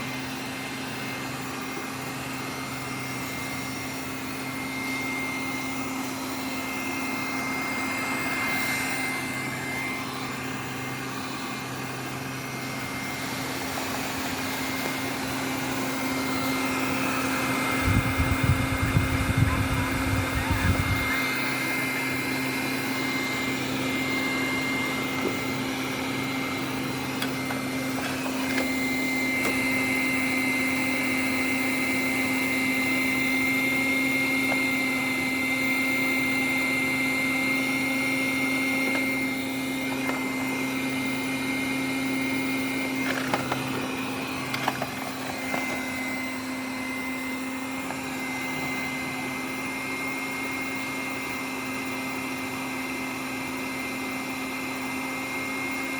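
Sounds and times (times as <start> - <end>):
robot vacuum cleaner running: 0.0 - 55.9.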